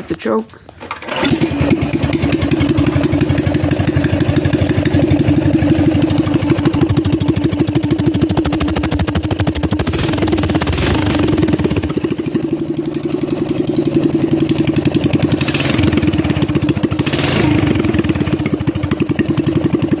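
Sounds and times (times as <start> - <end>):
small engine pulsing: 1.0 - 20.0.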